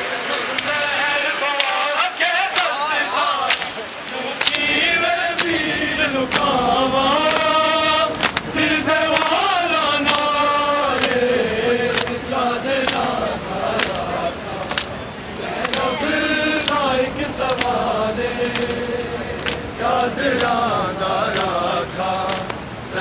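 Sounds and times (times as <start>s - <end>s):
men chanting a lament: 0.2s - 23.0s
crowd chest beating slaps: 0.3s - 0.8s, 1.5s - 3.8s, 4.4s - 23.0s.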